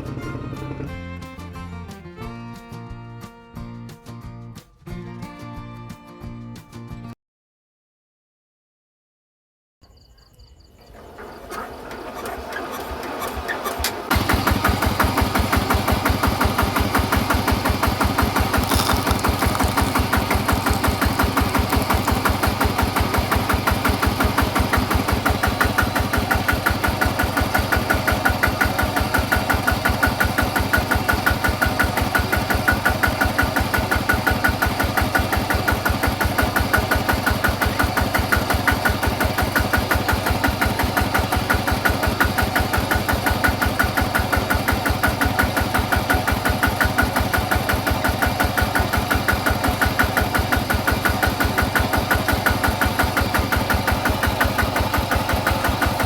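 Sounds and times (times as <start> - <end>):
small engine running: 0.0 - 2.0, 10.9 - 56.0.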